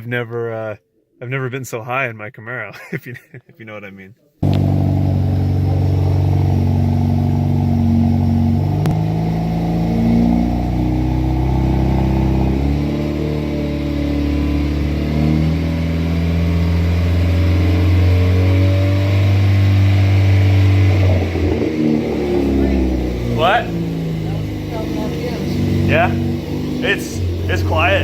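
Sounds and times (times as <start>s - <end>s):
car engine idling: 4.4s - 28.0s.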